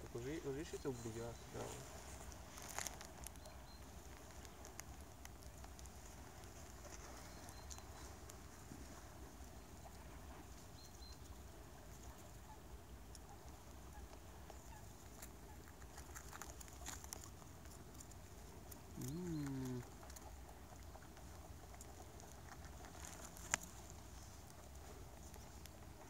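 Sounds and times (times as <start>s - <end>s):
rabbits nibbling carrots: 0.0s - 26.0s.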